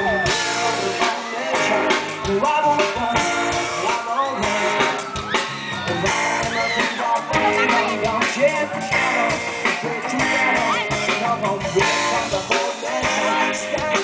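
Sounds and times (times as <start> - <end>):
drum kit: 0.0 - 14.0
electric guitar: 0.0 - 14.0.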